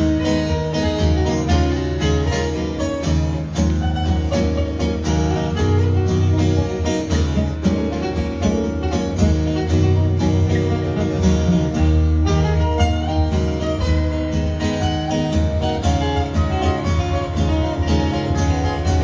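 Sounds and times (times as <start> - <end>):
amplified guitars playing: 0.0 - 19.0.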